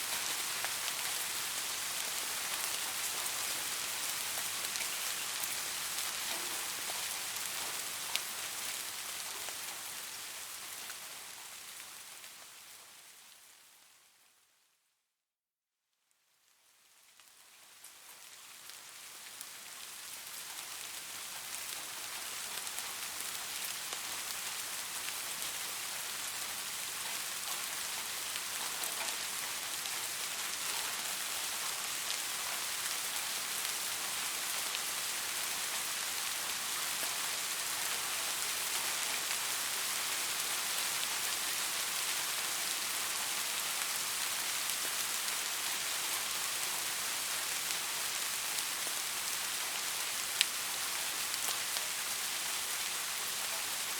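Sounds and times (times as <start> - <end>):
steady rain falling: 0.0 - 14.7, 16.1 - 53.9.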